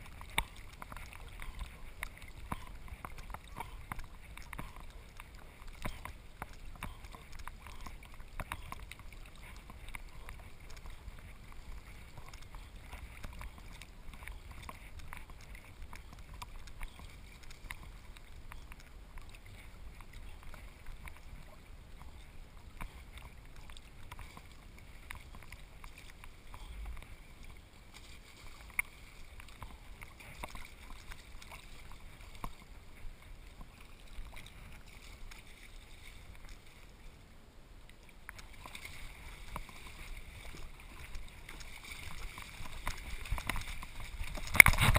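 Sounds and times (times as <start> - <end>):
water splashing and sloshing: 0.0 - 44.9.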